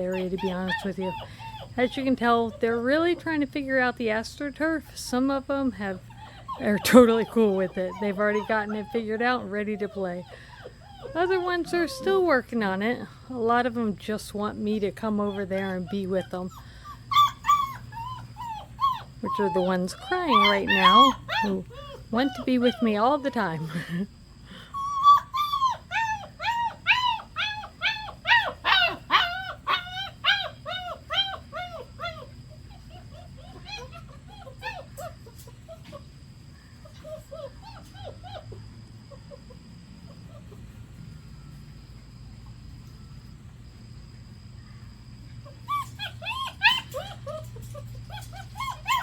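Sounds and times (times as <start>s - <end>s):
puppies whining: 0.0s - 3.6s, 4.8s - 13.7s, 14.7s - 41.0s, 45.4s - 49.0s.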